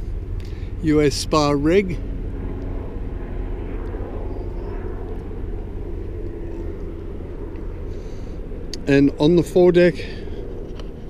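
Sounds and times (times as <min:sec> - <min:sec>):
faint hum: 0:00.0 - 0:11.0
steady low rumble: 0:00.0 - 0:11.0.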